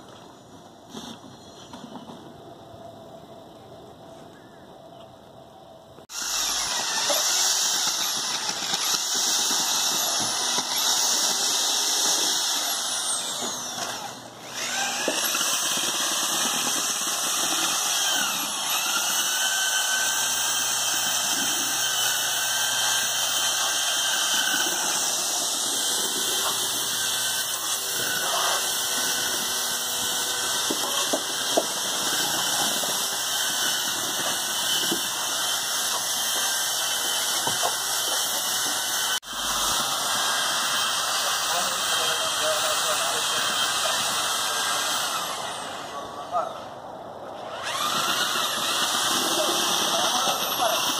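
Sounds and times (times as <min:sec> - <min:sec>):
electric drill mixing stucco: 0:06.0 - 0:46.5, 0:47.4 - 0:50.9.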